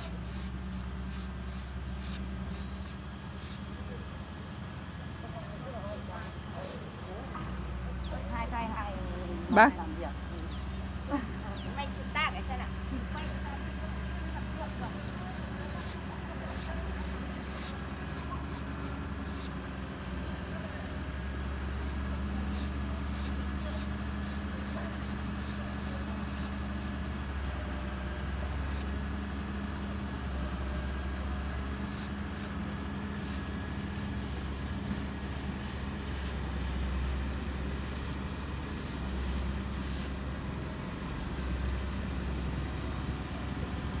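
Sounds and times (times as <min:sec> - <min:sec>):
engine running steadily: 0:00.0 - 0:44.0.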